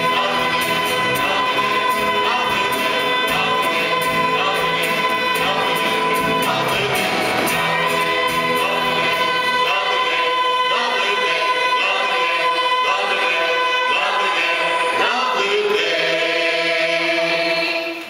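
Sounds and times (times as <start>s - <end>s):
gospel choir singing: 0.0s - 18.0s.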